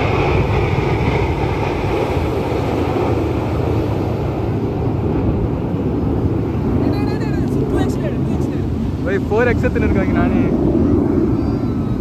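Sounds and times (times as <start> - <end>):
jet aircraft flying over: 0.0 - 12.0
wind buffeting microphone: 0.0 - 12.0.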